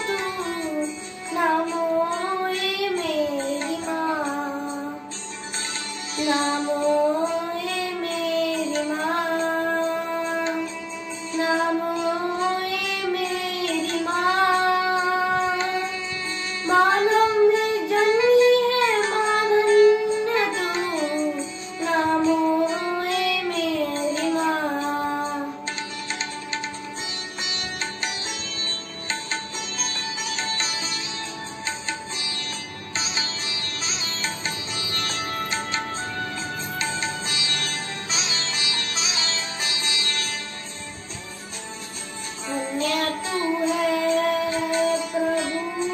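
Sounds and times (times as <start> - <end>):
plucked string accompaniment: 0.0 - 45.9
soft instrumental backing: 0.0 - 45.9.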